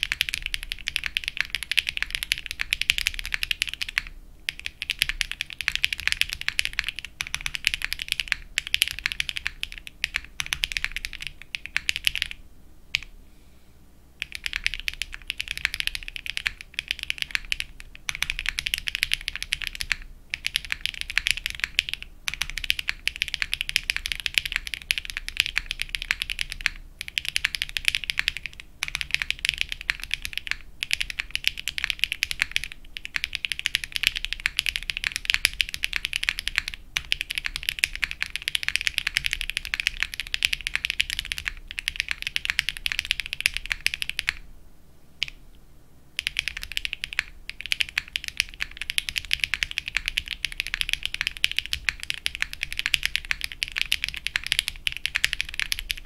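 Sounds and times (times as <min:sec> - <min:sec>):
fast typing on mechanical keyboard: 0:00.0 - 0:12.4, 0:14.2 - 0:44.4, 0:46.2 - 0:56.0.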